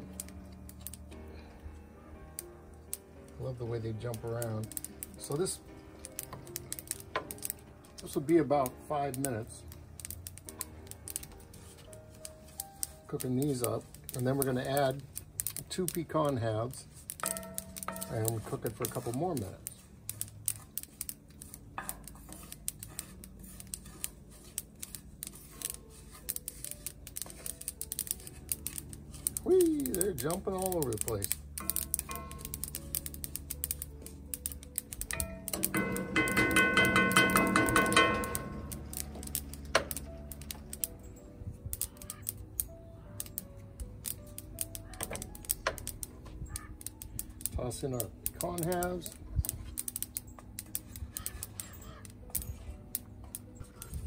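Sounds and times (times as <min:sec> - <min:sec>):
sesame seeds popping in a pan: 0:00.0 - 0:01.5, 0:02.2 - 0:54.0
background music: 0:00.0 - 0:54.0.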